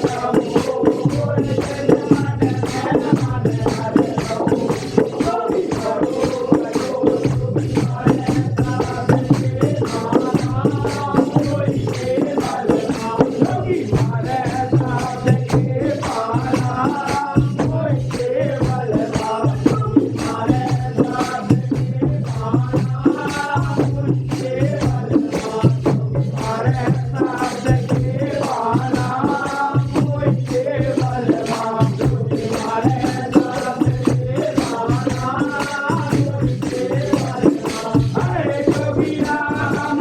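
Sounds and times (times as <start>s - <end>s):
devotional music with percussion: 0.0s - 40.0s.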